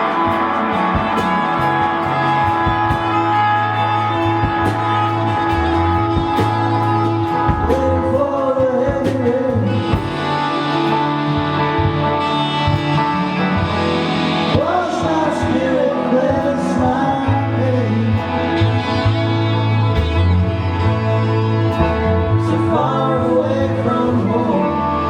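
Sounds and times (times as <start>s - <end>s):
guitar: 0.0s - 25.0s.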